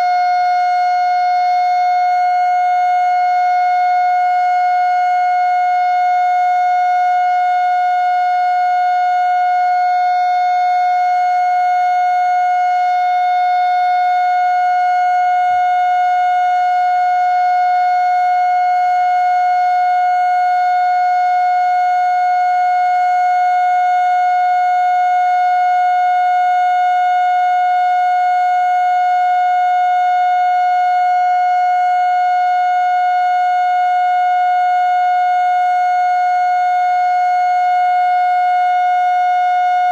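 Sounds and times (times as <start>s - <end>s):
siren steady high tone: 0.0s - 39.9s.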